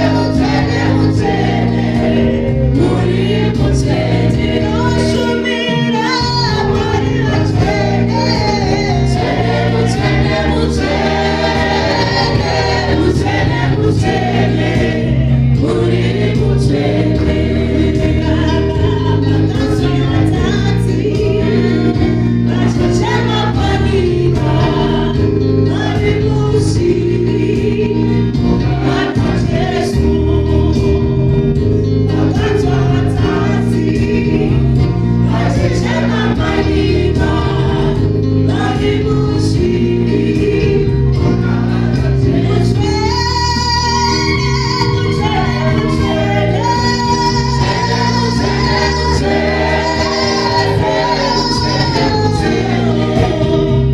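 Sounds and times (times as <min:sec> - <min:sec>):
instrumental backing with bass line: 0:00.0 - 0:53.9
lead singer: 0:00.0 - 0:53.9.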